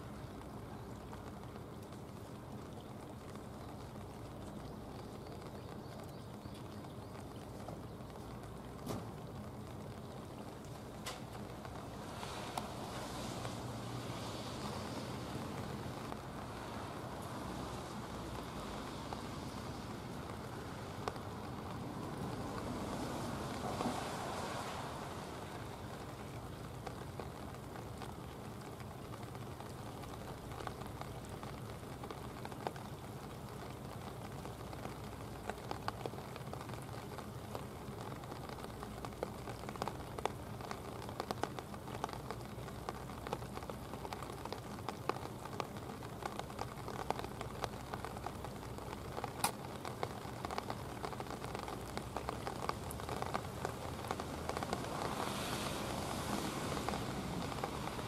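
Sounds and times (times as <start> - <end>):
light rain pattering: 0.0 - 58.0.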